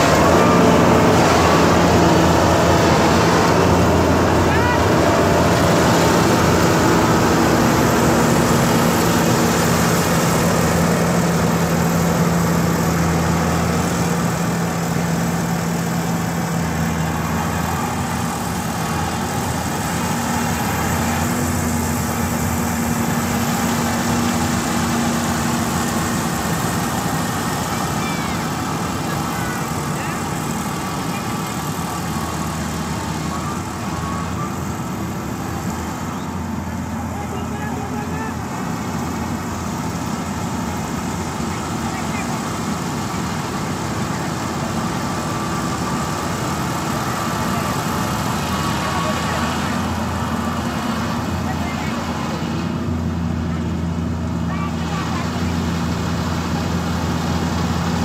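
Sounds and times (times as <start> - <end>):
combine harvester engine hum: 0.0 - 58.0.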